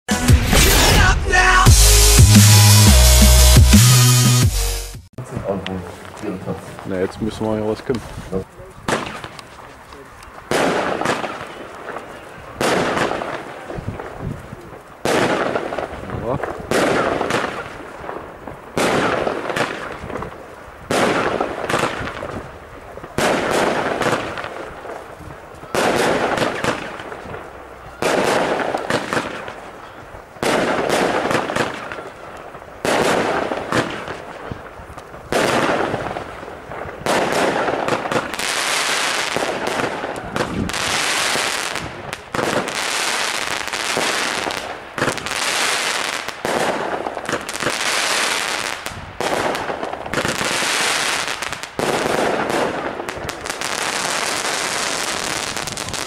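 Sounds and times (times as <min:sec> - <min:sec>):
dense firework crackling: 0:05.2 - 0:56.0
firework shots with hiss: 0:07.9 - 0:09.7, 0:10.3 - 0:56.0.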